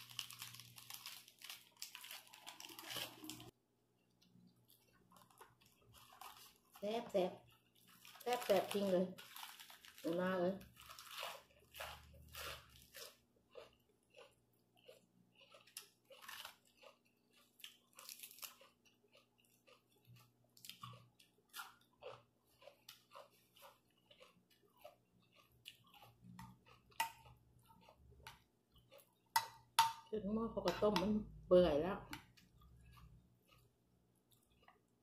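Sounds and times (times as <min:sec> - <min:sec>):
person chewing raw vegetable: 0:00.0 - 0:35.0.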